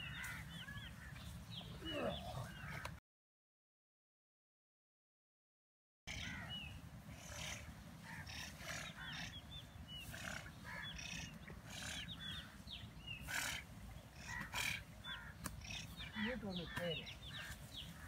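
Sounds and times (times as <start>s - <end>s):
small birds chirping: 0.0s - 3.0s, 6.1s - 18.0s.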